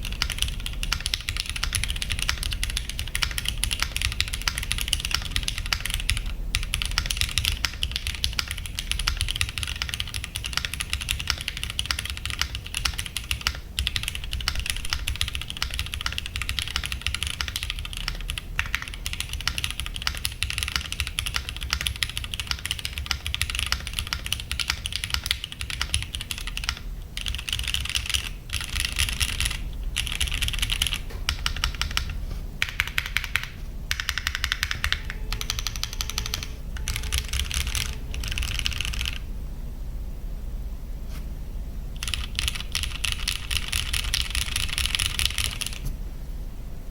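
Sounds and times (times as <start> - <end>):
mechanical keyboard typing: 0.0 - 39.2, 42.0 - 45.9.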